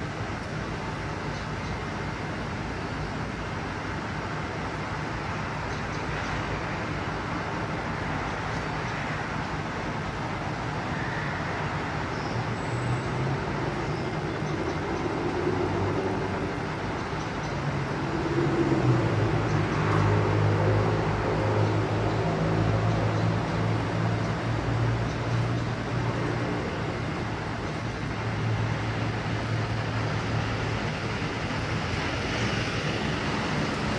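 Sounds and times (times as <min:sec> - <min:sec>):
road traffic rumble: 0:00.0 - 0:33.9.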